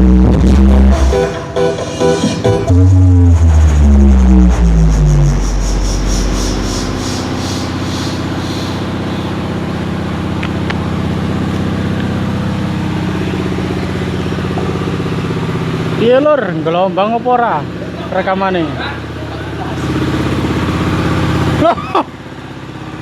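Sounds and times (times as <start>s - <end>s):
heavy bass music: 0.0s - 16.8s, 17.6s - 22.1s
engine idling: 0.0s - 23.0s.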